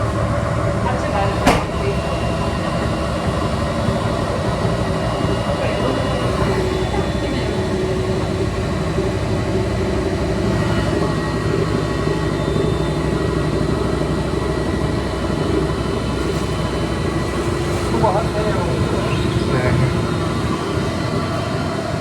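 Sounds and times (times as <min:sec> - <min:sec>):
washing machine rumbling: 0:00.0 - 0:22.0.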